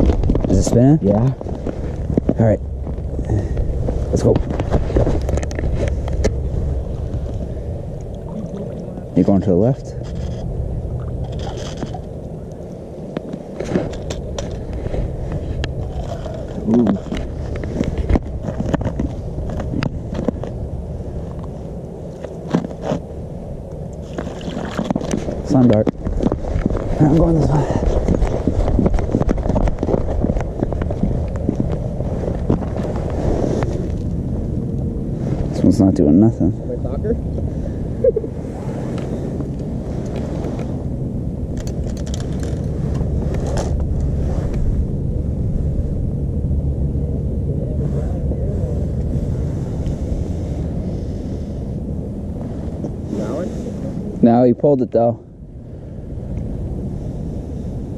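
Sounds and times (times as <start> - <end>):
wind rumble on microphone: 0.0 - 57.9.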